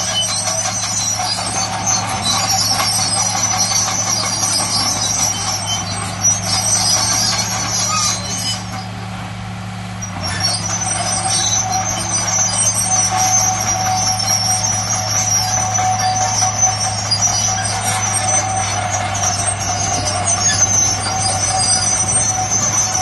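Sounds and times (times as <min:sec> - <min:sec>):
high squeaking and hissing: 0:00.0 - 0:08.9, 0:10.1 - 0:23.0
heavy diesel machinery drone: 0:00.0 - 0:23.0.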